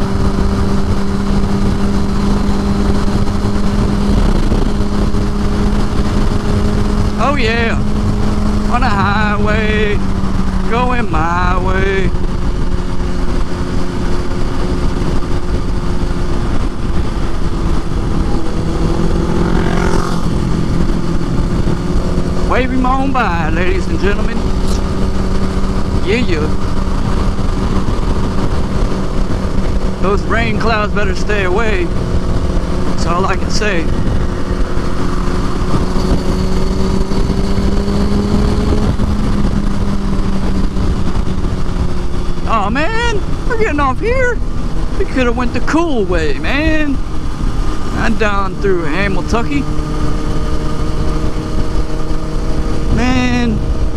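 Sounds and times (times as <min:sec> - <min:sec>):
motorcycle engine cruising: 0:00.0 - 0:53.9
wind noise on microphone: 0:00.0 - 0:53.9.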